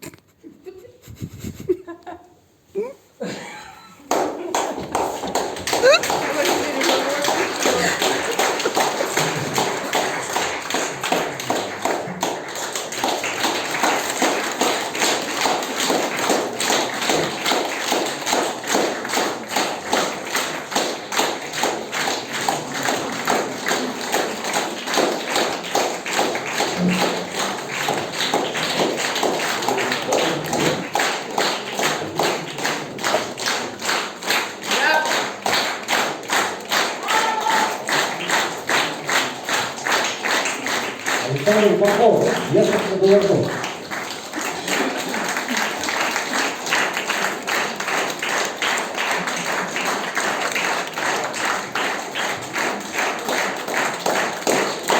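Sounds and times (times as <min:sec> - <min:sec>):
audience clapping in rhythm: 0:03.4 - 0:54.9.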